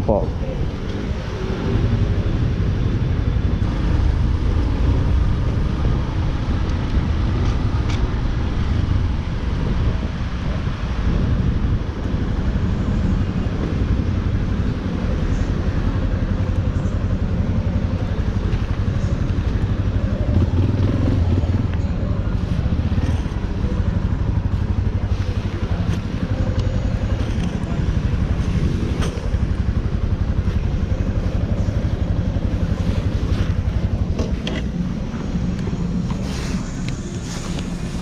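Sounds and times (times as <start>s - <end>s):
motorcycle engine running: 0.1s - 38.0s.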